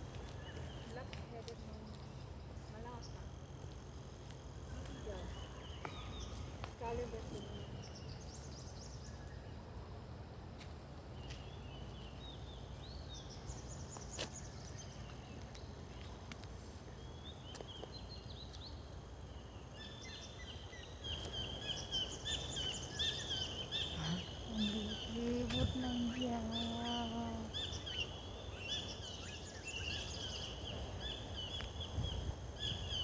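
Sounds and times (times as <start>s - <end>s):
small birds chirping: 0.0s - 9.6s, 11.2s - 33.0s.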